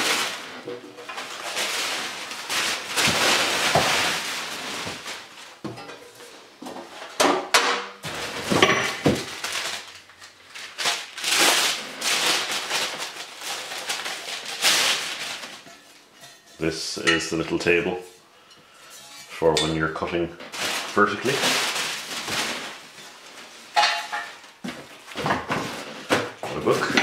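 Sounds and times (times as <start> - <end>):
packing paper rustling: 0.0 - 7.2, 8.0 - 16.1, 20.0 - 27.0.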